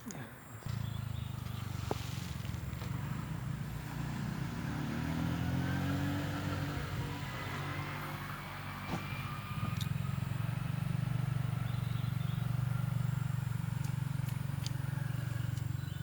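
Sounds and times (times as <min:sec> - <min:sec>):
small engine running: 0:00.7 - 0:16.0.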